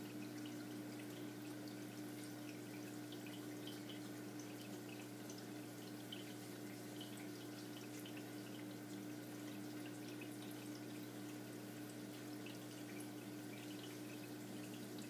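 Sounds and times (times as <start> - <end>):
aquarium pump hum: 0.0 - 15.0
water trickling and dripping: 0.0 - 15.0.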